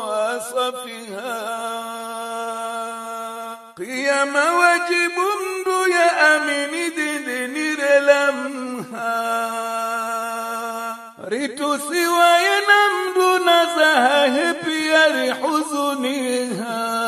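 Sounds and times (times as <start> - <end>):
man singing religious chant: 0.0 - 17.0.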